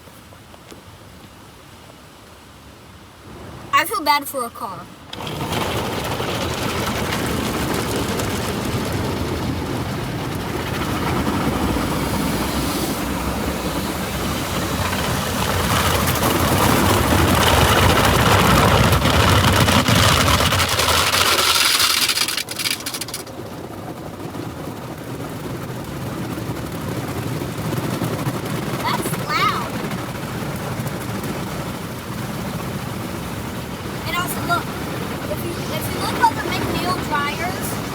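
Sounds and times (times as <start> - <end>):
car wash rushing noise: 3.3 - 37.9.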